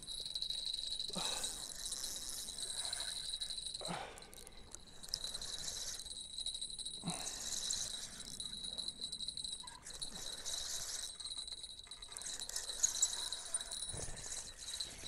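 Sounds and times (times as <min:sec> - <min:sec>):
fishing reel gears whining: 0:00.0 - 0:15.0.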